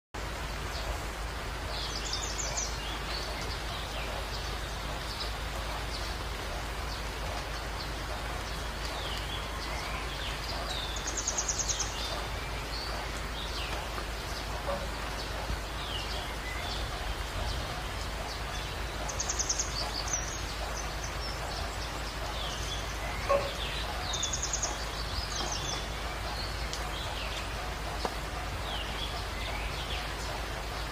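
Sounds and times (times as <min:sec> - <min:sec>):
birds chirping and trilling: 0:00.2 - 0:30.9
steady background hiss: 0:00.2 - 0:30.9.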